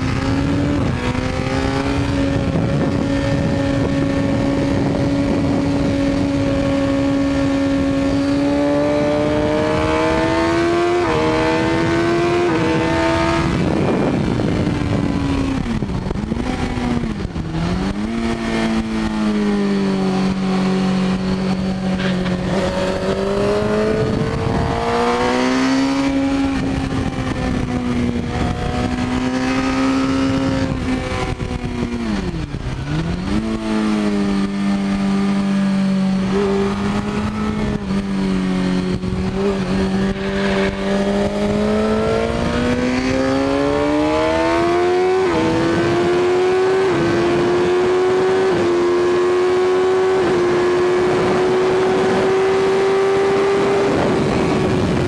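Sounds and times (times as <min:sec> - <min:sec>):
motorcycle engine at speed: 0:00.0 - 0:55.0
quick gear upshifts: 0:00.0 - 0:55.0
wind rushing: 0:00.0 - 0:55.0.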